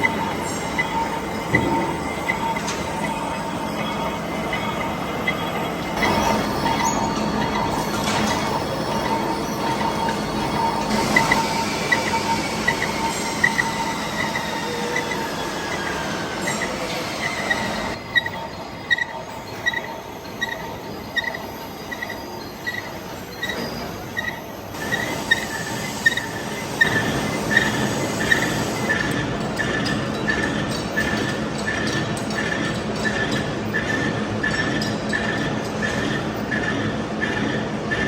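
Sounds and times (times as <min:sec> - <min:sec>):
machine tool cutting steel: 0:06.0 - 0:38.0.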